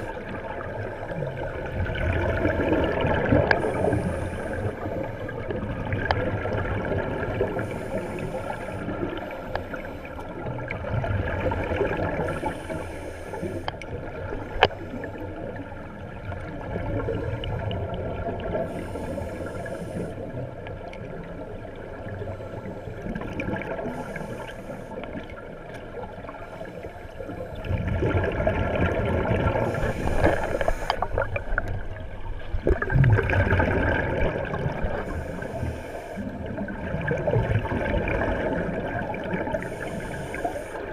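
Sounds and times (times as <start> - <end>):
underwater water rushing: 0.0 - 40.9.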